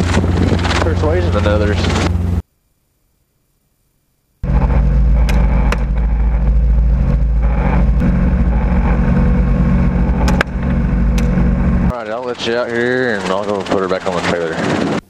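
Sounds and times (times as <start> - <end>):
helicopter engine and rotor: 0.0 - 2.4, 4.4 - 15.0.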